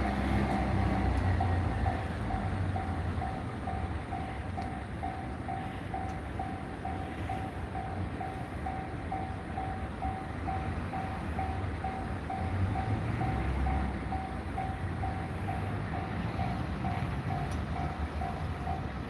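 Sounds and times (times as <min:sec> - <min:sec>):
level crossing alarm dinging: 0:00.0 - 0:19.0
train rumbling: 0:00.0 - 0:19.0.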